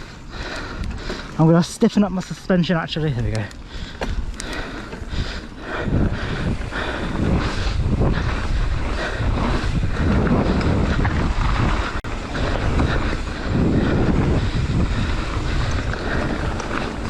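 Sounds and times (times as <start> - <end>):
wind rushing over microphone: 0.0 - 17.0
bike rumbling over ground: 2.3 - 17.0.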